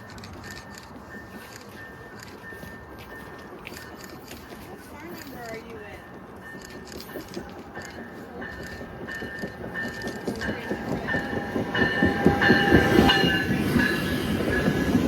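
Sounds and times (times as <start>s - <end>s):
train passing: 0.0s - 15.0s
wheels clicking over rails: 0.0s - 15.0s.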